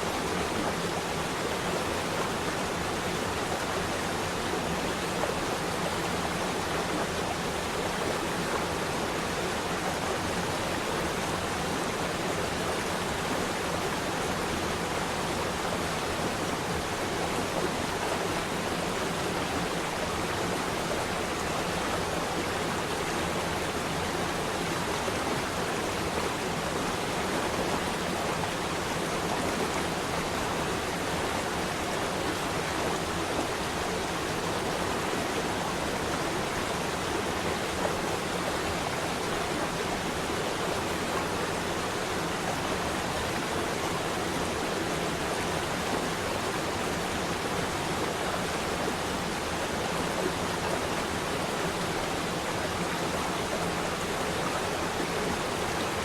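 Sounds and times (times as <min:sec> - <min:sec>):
flowing stream water: 0:00.0 - 0:56.0.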